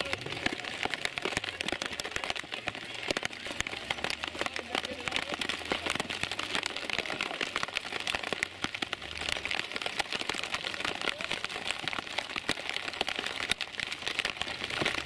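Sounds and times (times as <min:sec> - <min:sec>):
heavy rain pattering: 0:00.0 - 0:15.0.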